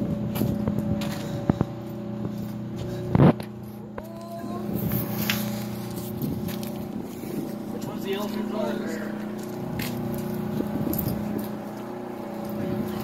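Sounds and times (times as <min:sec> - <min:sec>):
idling machine hum: 0:00.0 - 0:13.0.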